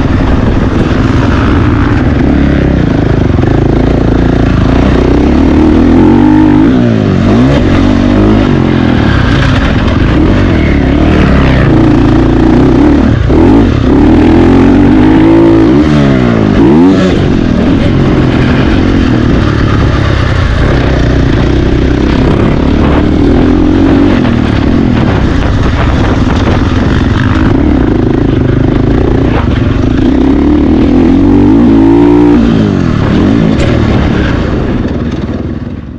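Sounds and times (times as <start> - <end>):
motocross bike engine revving: 0.0 - 35.3.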